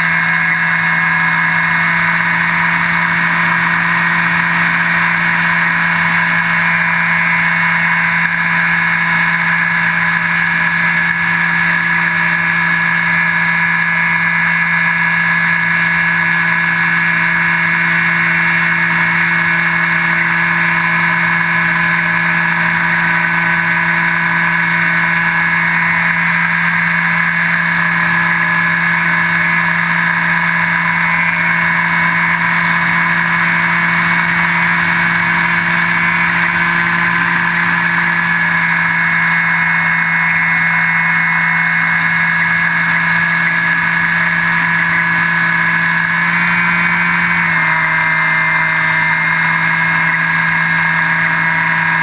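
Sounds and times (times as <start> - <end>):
propeller motor whine: 0.0 - 52.0.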